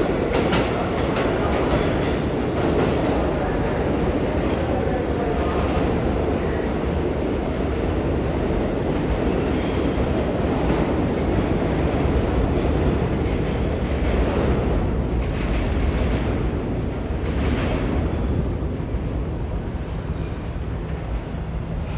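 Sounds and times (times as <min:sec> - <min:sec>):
subway train rumbling on rails: 0:00.0 - 0:21.9.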